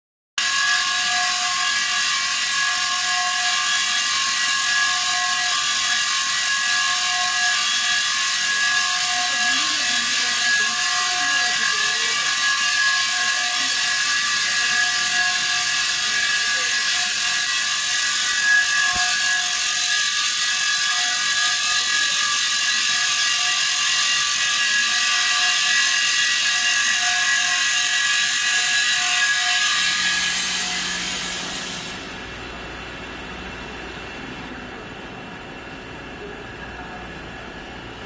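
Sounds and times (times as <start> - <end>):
grinding wheel on steel drum: 0.4 - 33.4
machine motor whine: 0.4 - 38.0.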